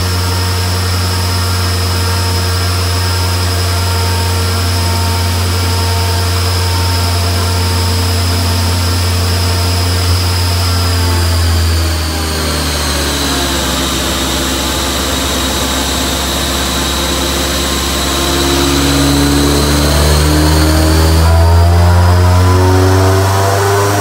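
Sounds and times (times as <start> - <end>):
car engine drone: 0.0 - 24.0
high turbo whine: 0.0 - 24.0.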